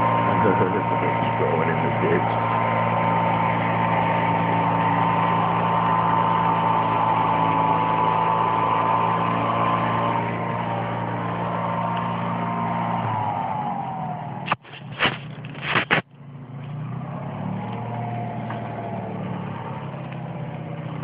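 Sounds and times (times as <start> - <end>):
deep engine drone: 0.0 - 21.0
engine high whine: 0.0 - 21.0.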